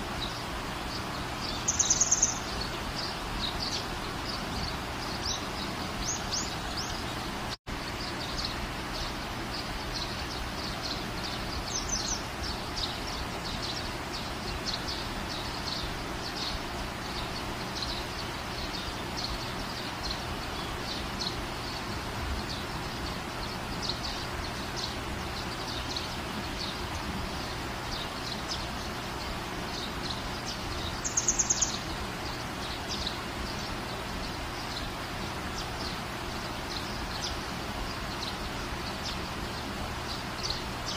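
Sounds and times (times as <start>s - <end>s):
outdoor background noise: 0.0s - 40.9s.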